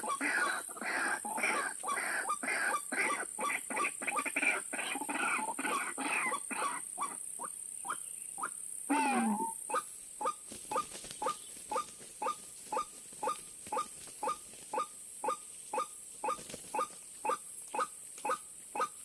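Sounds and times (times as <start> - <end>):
bird croaking calls: 0.0 - 19.0.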